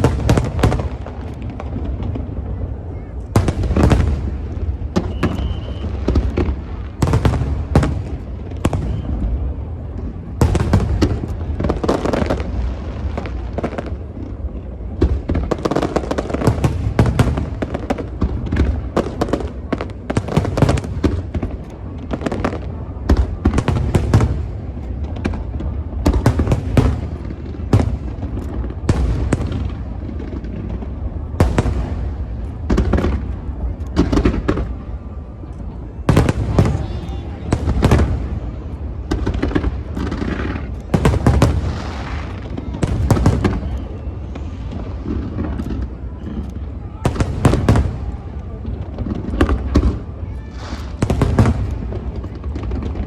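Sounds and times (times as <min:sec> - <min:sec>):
continuous low rumble: 0:00.0 - 0:53.0
fireworks bangs and booms: 0:00.0 - 0:53.0.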